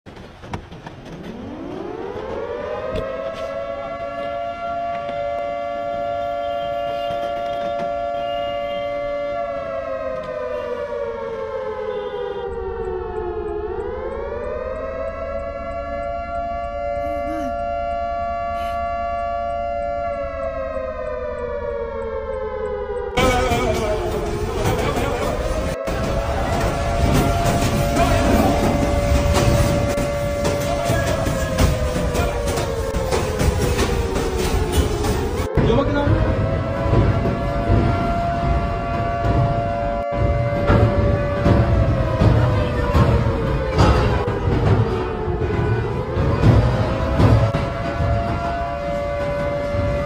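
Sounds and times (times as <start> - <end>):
warning siren wailing: 0.8 - 50.0.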